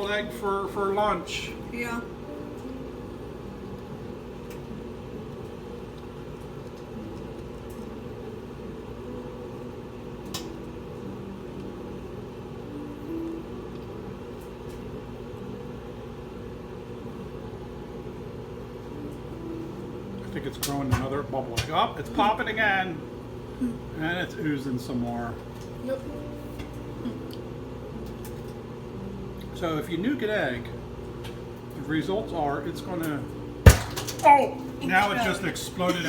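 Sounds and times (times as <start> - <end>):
microwave oven humming: 0.0 - 36.0.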